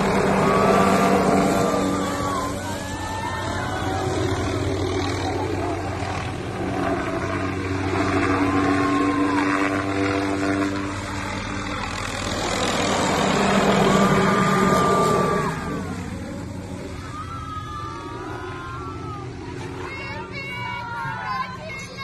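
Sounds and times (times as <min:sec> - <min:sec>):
helicopter flying low overhead: 0:00.0 - 0:22.0.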